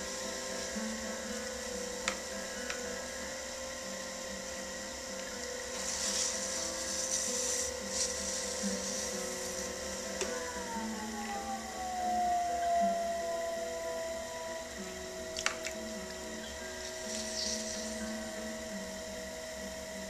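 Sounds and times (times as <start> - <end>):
pottery wheel motor whine: 0.0 - 20.0.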